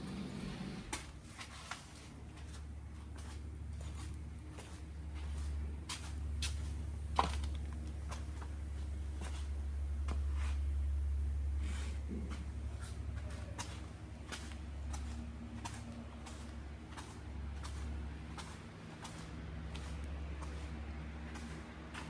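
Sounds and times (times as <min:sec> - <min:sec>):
footsteps: 0:00.0 - 0:22.0
steady low rumble: 0:00.0 - 0:22.0.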